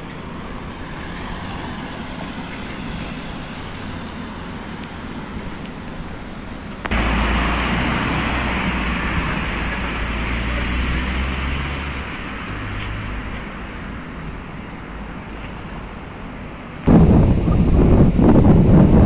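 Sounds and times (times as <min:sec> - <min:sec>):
passing vehicle engine hum: 0:00.0 - 0:18.8
general traffic noise: 0:00.0 - 0:19.0.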